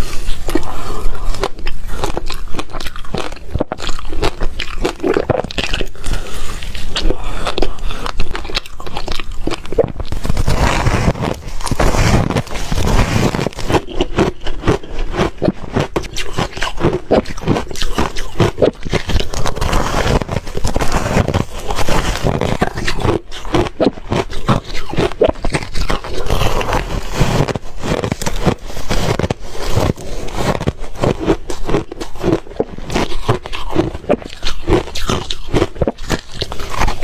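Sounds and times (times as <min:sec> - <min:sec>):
ice crunching: 0:00.0 - 0:37.0.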